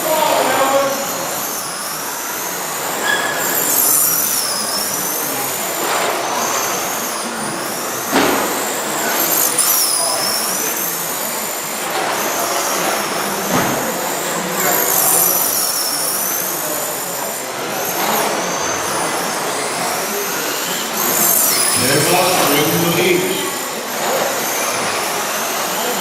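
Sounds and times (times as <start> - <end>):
toy truck motors whining: 0.0 - 26.0.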